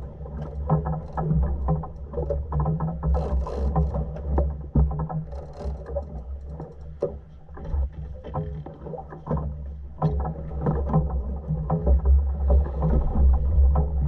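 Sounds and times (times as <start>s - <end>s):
water splashing along hull: 0.0s - 14.0s.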